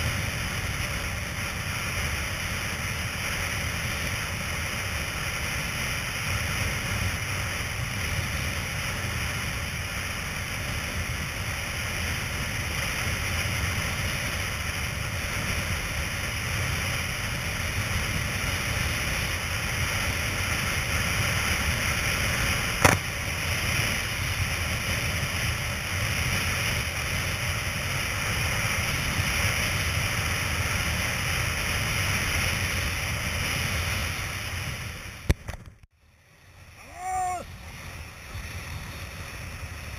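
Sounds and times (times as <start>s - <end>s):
wind rush and buffeting: 0.0s - 39.9s.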